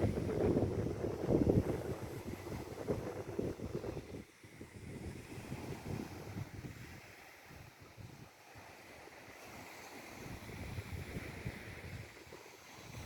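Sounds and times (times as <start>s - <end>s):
wind buffeting microphone: 0.0s - 8.3s, 10.1s - 13.0s
waves washing: 0.0s - 13.0s.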